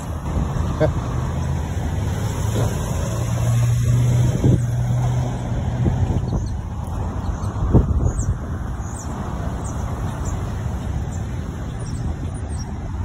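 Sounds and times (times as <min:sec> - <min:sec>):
street traffic noise: 0:00.0 - 0:13.0
vehicle engine humming: 0:00.0 - 0:13.0.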